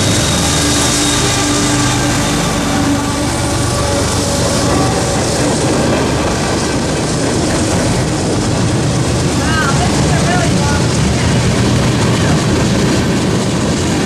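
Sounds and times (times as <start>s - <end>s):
locomotive engine: 0.0s - 14.0s
train cars rolling on rails: 0.0s - 14.0s.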